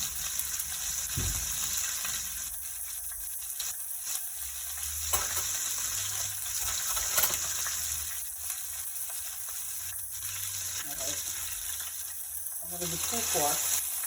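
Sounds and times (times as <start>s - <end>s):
fish sizzling in a pan: 0.0s - 14.0s.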